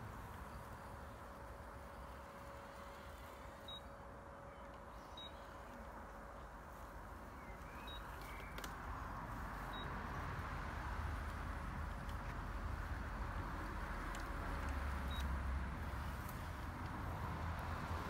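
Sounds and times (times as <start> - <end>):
robotic lawn mower motor whir: 0.0 - 18.0.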